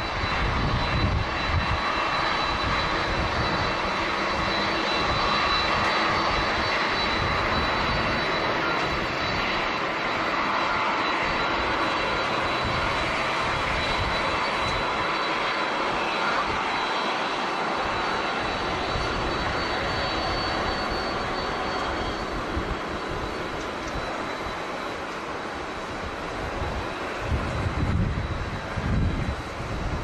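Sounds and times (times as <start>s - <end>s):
thin high whine: 0.0s - 29.6s
jet engines running: 0.0s - 30.0s.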